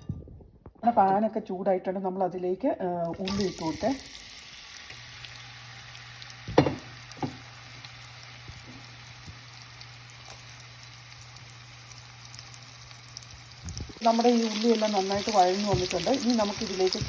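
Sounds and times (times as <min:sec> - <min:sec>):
onions sizzling in oil: 0:03.2 - 0:17.0.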